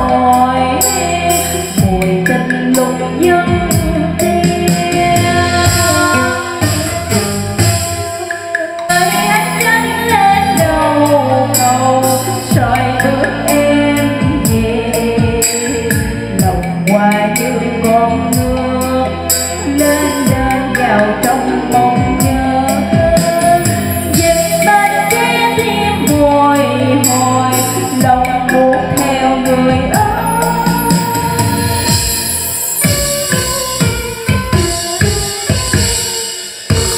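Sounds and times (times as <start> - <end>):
karaoke backing track: 0.0 - 36.9
woman singing into microphone: 0.0 - 36.9.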